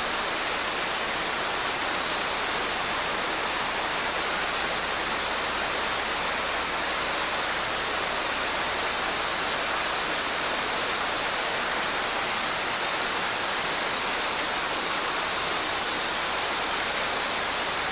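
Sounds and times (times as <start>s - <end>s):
cicadas buzzing: 0.0s - 17.9s
stream rushing water: 0.0s - 17.9s.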